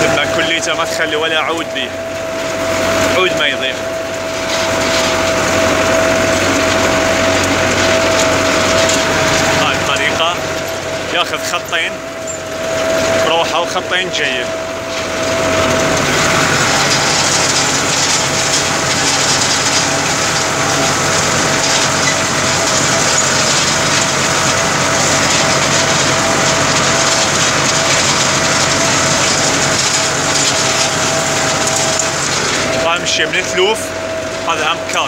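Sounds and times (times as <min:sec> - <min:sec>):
steady high whine: 0:00.0 - 0:35.0
tractor engine running: 0:00.0 - 0:35.0.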